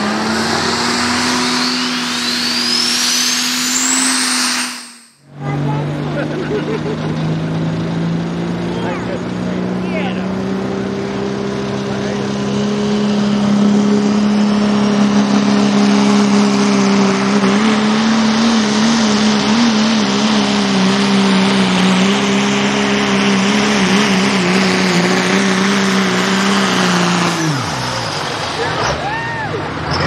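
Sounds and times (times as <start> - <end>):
diesel truck engine at full throttle: 0.0 - 30.0
exhaust noise rushing: 0.0 - 30.0.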